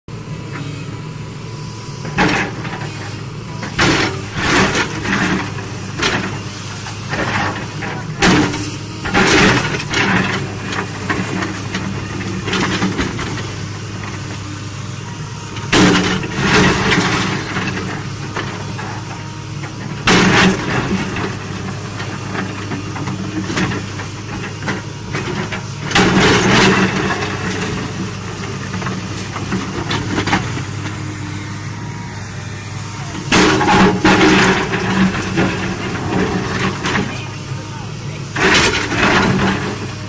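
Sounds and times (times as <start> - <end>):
excavator diesel engine running: 0.1 - 40.0.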